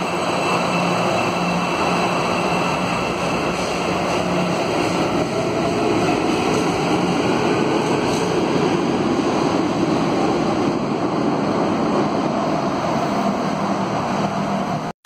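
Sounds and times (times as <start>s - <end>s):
metro train rushing: 0.0s - 14.9s.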